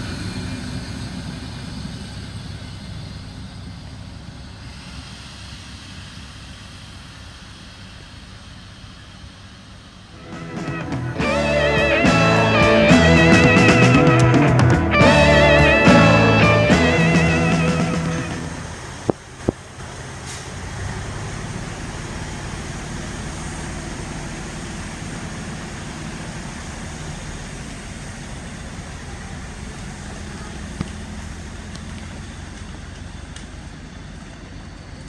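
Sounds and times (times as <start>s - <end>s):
diesel railcar engines running: 0.0s - 35.0s.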